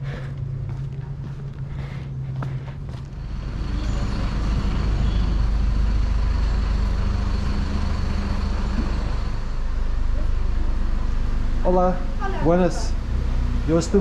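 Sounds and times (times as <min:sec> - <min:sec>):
heavy vehicle engine rumble: 0:00.0 - 0:14.0.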